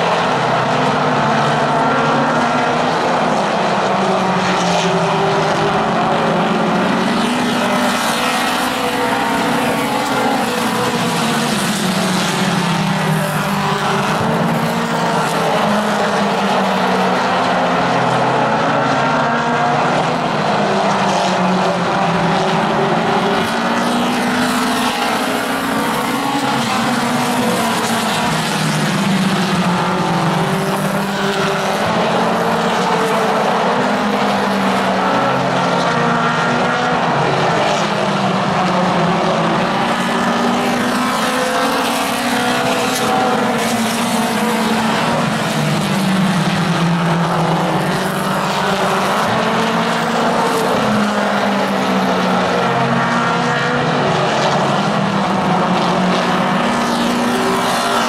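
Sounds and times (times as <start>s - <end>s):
race car engines at high revs: 0.0s - 58.0s.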